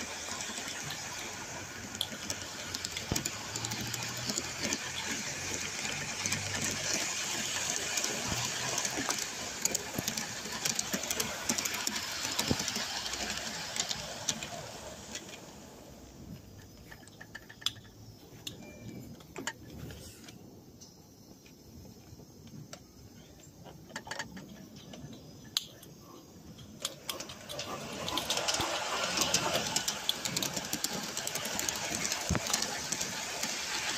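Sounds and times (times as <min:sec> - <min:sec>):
small train wheels clattering on track: 0:00.0 - 0:33.9.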